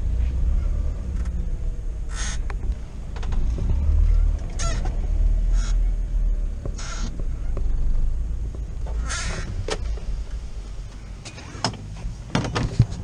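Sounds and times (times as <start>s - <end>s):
van engine droning: 0.0s - 13.0s.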